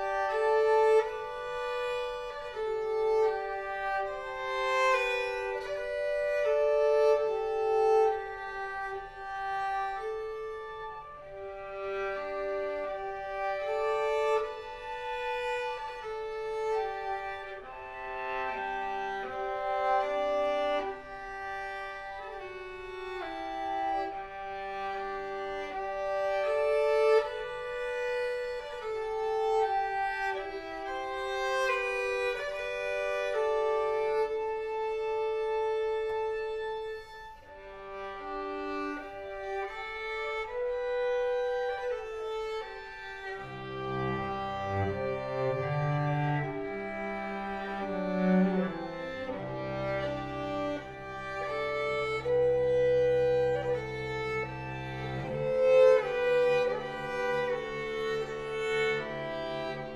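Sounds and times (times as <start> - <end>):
string quartet playing: 0.0 - 59.9.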